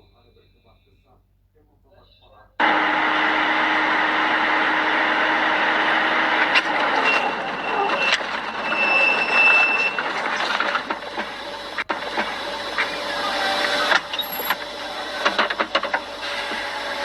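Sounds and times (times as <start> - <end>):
vehicle road noise: 2.6 - 17.0.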